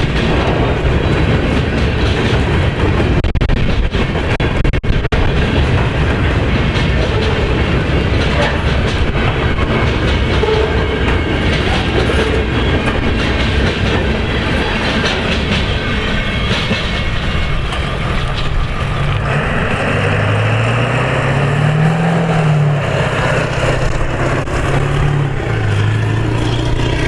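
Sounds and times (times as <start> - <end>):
freight train wheels clicking: 0.0 - 27.0.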